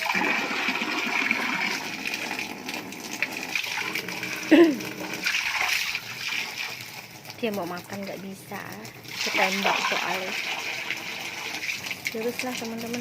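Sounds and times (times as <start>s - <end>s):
water gushing from a hose: 0.0s - 13.0s.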